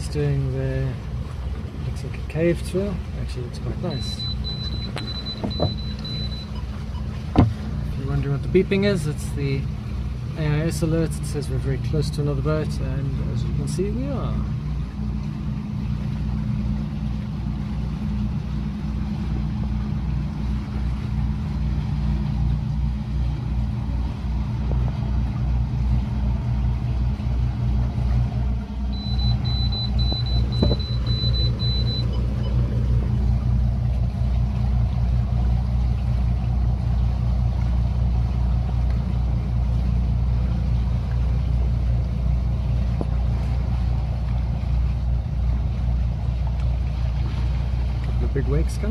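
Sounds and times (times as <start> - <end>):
low machine rumble: 0.0 - 48.9.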